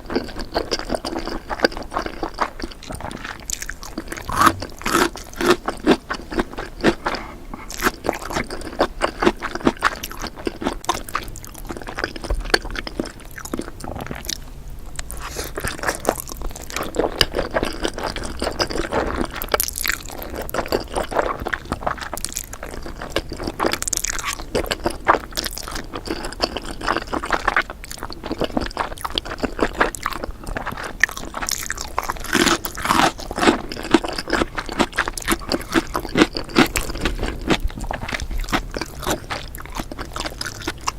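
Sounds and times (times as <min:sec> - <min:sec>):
chewing and crunching noodles: 0:00.0 - 0:40.9.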